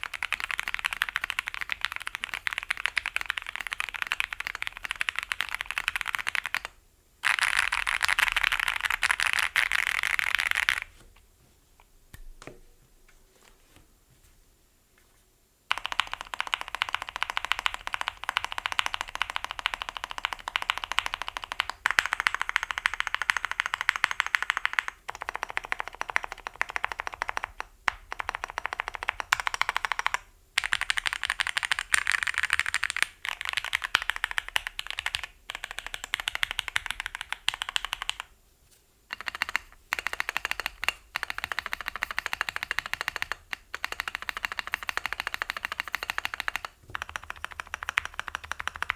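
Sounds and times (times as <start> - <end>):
typing on mechanical keyboard: 0.0 - 10.9, 15.7 - 38.3, 39.1 - 48.9.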